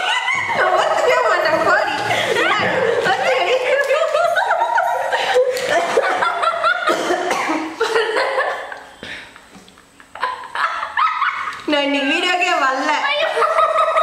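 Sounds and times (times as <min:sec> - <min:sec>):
women laughing: 0:00.0 - 0:08.9, 0:09.9 - 0:11.7, 0:13.0 - 0:14.0.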